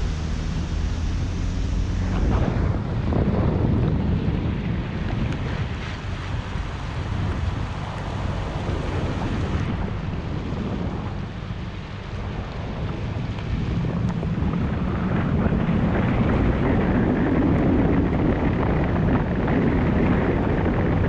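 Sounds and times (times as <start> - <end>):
engine and tyres rumbling: 0.0 - 21.0
wind noise on microphone: 0.0 - 21.0.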